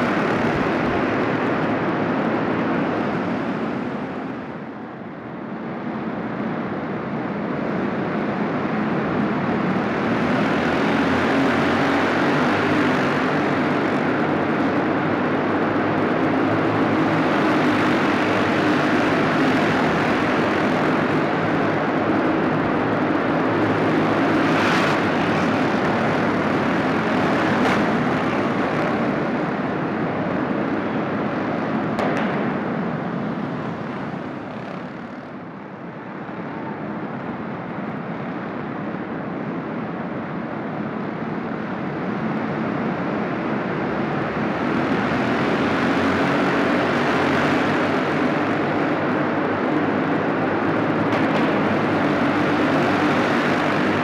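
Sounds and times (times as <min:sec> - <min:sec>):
go-kart engines racing: 0:00.0 - 0:54.0.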